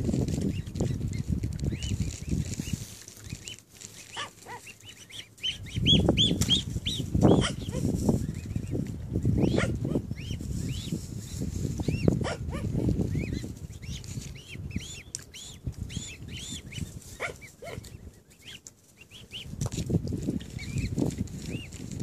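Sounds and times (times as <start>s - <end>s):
cygnets peeping: 0.0s - 22.0s.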